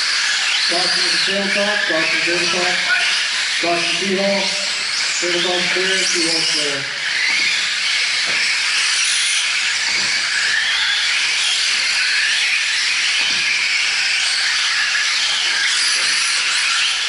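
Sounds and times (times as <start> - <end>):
rc trucks motors whining: 0.0 - 17.0.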